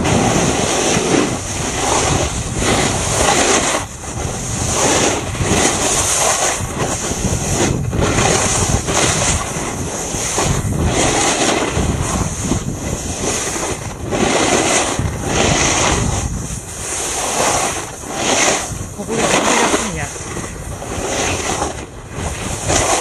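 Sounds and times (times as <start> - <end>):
ski edges scraping snow: 0.0 - 23.0
wind rushing over microphone: 0.0 - 23.0.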